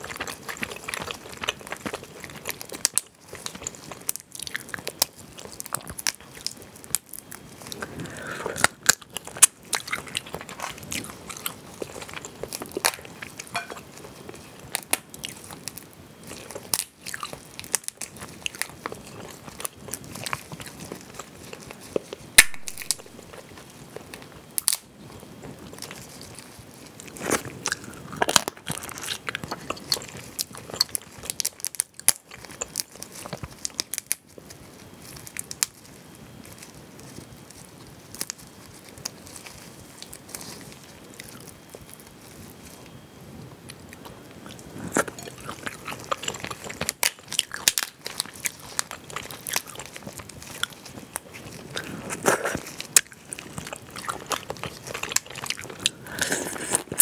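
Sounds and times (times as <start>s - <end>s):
crayfish shells cracking: 0.0s - 24.9s, 25.6s - 42.6s, 43.7s - 57.0s
chewing: 0.0s - 57.0s.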